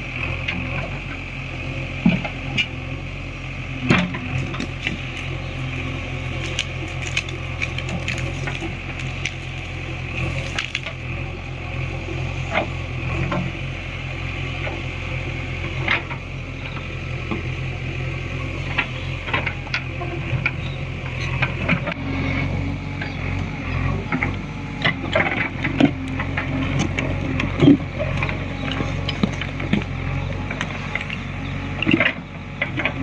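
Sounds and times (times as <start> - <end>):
backhoe diesel engine running: 0.0 - 33.0.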